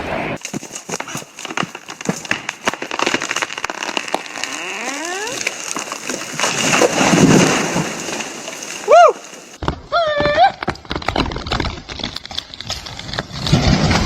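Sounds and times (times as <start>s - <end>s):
wood cracking and popping: 0.4s - 14.0s
tree creaking: 0.5s - 14.0s.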